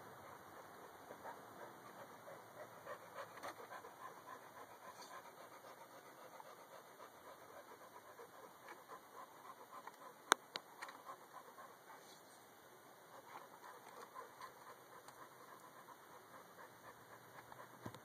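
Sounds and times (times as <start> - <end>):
dog panting quickly: 0.2 - 12.0, 13.1 - 18.0.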